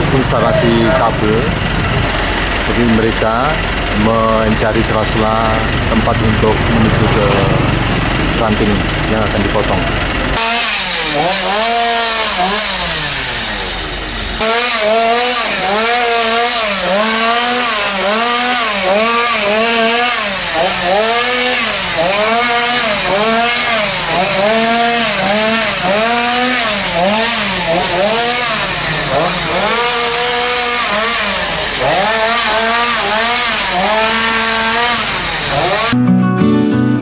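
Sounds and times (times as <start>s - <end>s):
chainsaw cutting branches: 0.0s - 36.0s.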